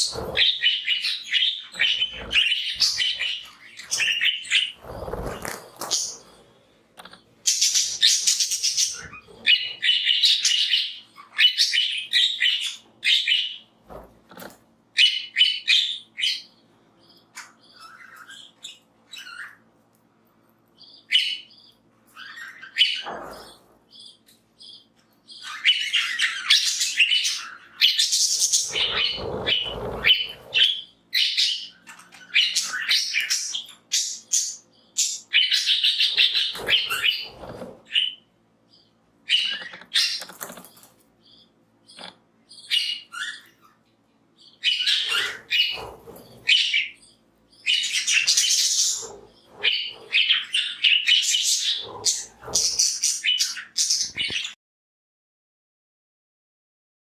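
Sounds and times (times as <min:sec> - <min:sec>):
budgies chirping and chattering: 0:00.0 - 0:19.7, 0:20.7 - 0:54.6.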